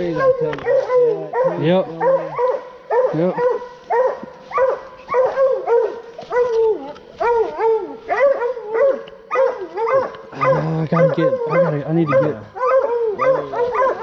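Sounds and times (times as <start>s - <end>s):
hounds barking: 0.0s - 14.0s.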